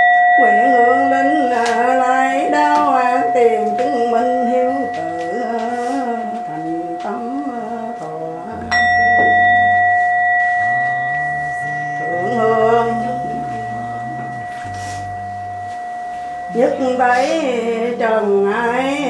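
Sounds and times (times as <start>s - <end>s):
bowl bell ringing: 0.0s - 19.0s
person chanting: 0.0s - 19.0s.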